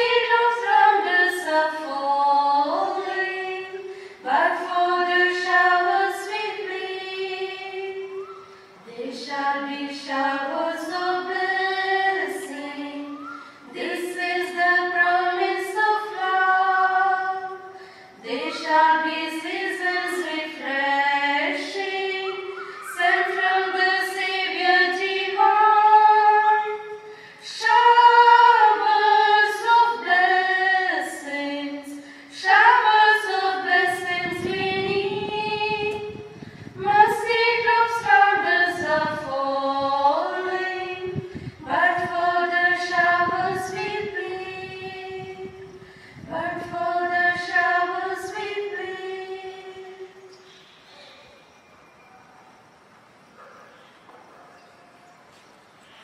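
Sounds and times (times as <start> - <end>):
women singing unaccompanied: 0.0 - 50.5.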